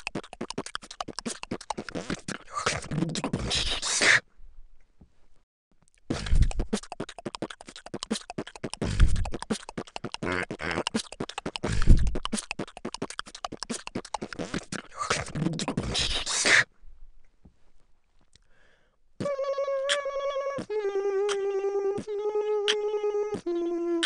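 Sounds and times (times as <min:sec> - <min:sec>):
beatboxing: 0:00.0 - 0:04.2, 0:06.1 - 0:16.7, 0:19.2 - 0:24.0.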